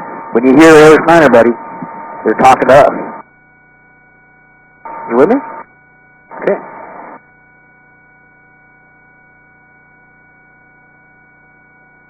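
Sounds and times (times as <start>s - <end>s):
electrical hum: 0.0s - 12.0s
faint whining tones: 0.0s - 12.0s.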